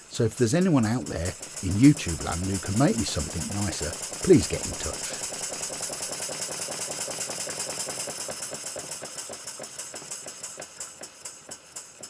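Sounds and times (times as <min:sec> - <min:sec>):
model steam engine exhaust beats: 0:00.0 - 0:12.0
mechanism clattering: 0:00.4 - 0:12.0.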